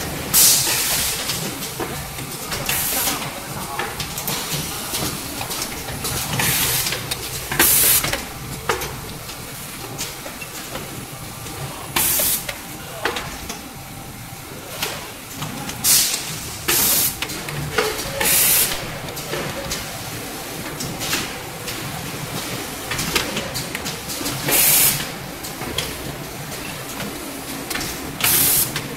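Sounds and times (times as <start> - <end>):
machine running noise: 0.0 - 28.9.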